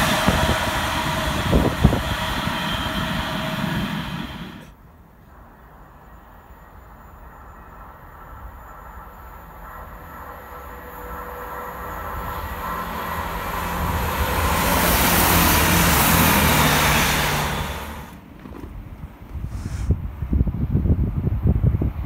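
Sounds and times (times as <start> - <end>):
passenger train passing: 0.0 - 22.0.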